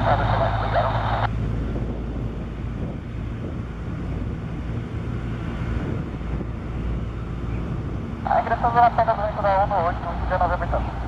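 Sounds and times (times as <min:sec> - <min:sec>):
propeller airplane droning: 0:00.0 - 0:11.0.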